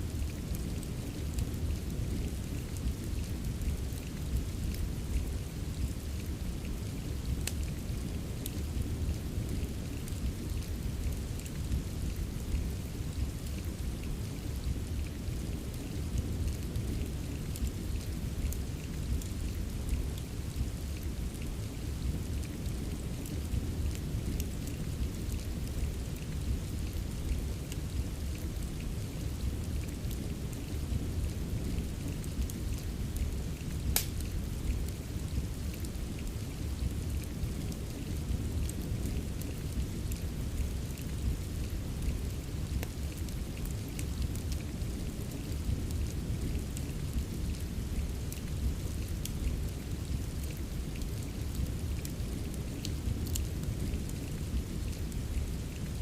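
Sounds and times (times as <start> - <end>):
steady rain: 0.0 - 56.0
fireplace crackles and pops: 0.1 - 56.0.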